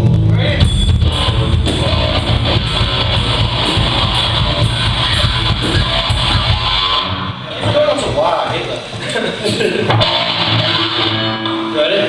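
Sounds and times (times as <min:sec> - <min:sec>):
electric guitar strumming chords: 0:00.0 - 0:12.0
rock band playing live: 0:00.0 - 0:12.0.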